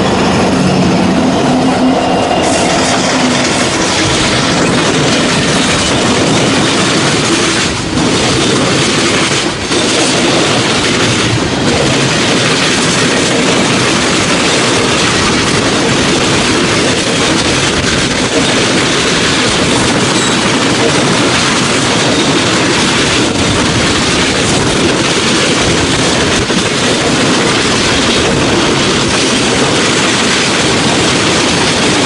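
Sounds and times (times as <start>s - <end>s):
freight train rumbling: 0.0s - 32.0s
wheels clacking on rail joints: 0.0s - 32.0s.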